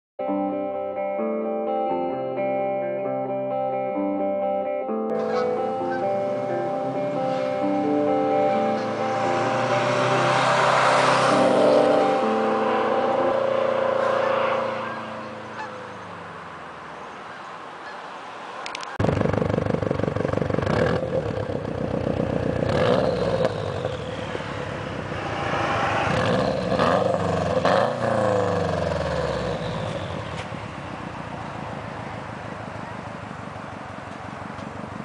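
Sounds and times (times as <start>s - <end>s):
car engine idling and revving: 5.1s - 18.0s, 18.6s - 35.0s
car driving by: 5.1s - 35.0s.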